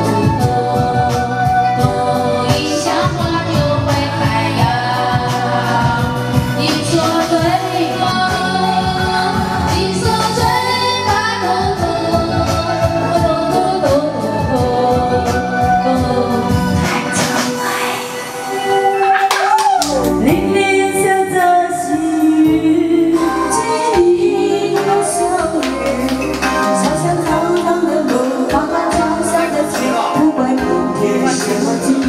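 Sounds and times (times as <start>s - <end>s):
woman singing into microphone: 0.0s - 19.3s, 20.0s - 32.0s
backing track over speakers: 0.0s - 32.0s.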